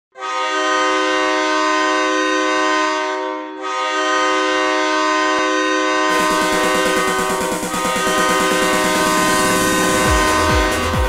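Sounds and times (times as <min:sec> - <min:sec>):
air horn chord blasts: 0:00.2 - 0:11.0.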